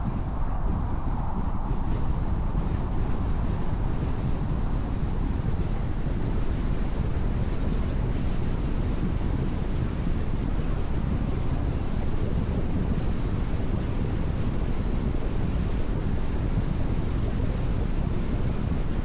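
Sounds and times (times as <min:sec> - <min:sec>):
wind over car: 0:00.0 - 0:19.0.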